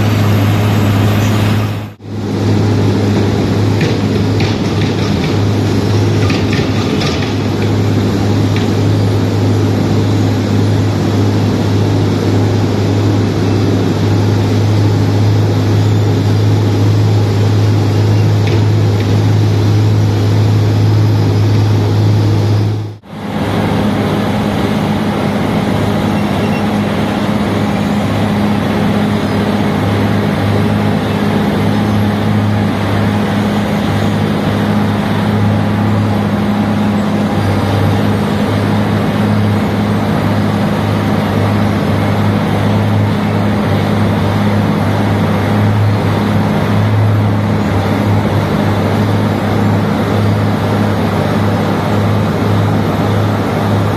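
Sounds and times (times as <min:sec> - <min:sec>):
diesel engine drone: 0:00.0 - 0:53.9.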